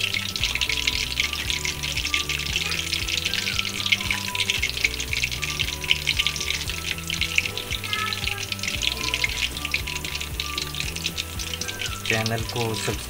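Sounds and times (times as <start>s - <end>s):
background music low notes: 0.0s - 13.0s
food deep-frying in oil: 0.0s - 13.0s.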